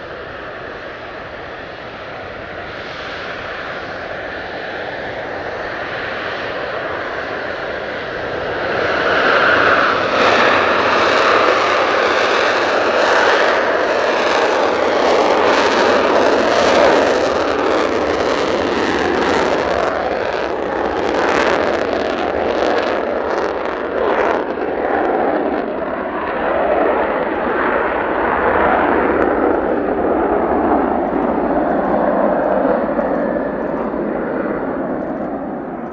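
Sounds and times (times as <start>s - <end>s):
fighter jet engines roaring: 0.0s - 35.9s.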